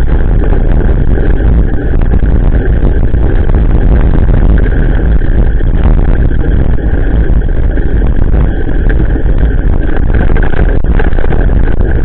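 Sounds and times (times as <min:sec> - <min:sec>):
road rumble: 0:00.0 - 0:12.0
wind noise on microphone: 0:00.0 - 0:12.0.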